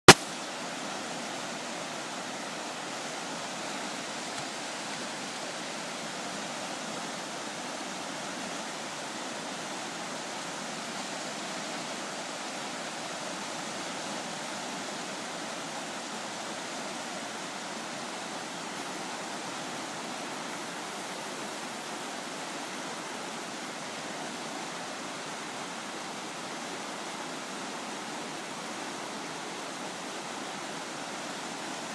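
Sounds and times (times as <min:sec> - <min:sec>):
rushing floodwater: 0:00.1 - 0:31.9.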